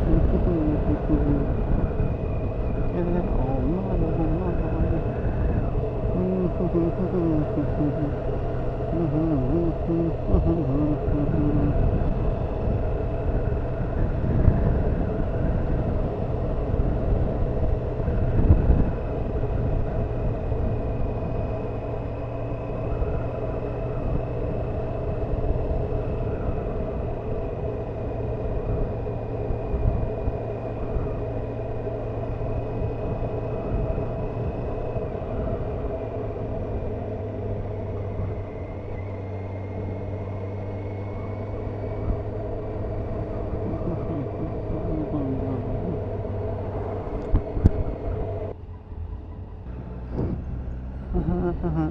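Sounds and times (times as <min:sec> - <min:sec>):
wind rumble on microphone: 0:00.0 - 0:51.9.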